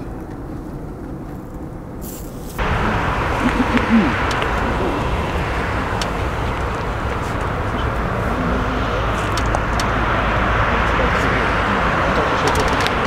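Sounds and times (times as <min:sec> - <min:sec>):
distant airplane roar: 0:00.0 - 0:13.0
wind: 0:00.0 - 0:13.0.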